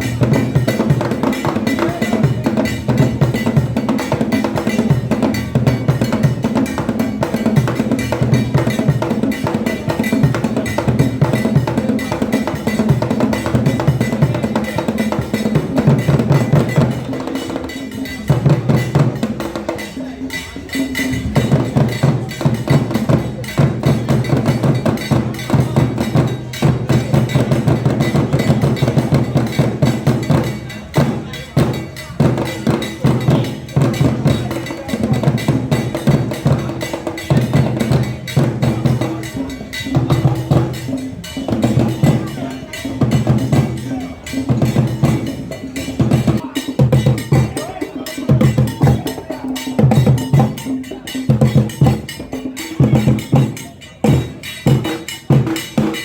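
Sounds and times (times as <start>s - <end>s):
bell strikes: 0.0s - 56.0s
drums: 0.0s - 56.0s.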